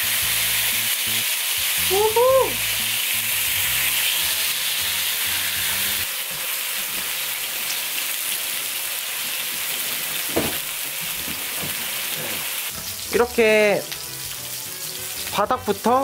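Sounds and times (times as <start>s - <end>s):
steak sizzling on a grill pan: 0.0s - 16.0s.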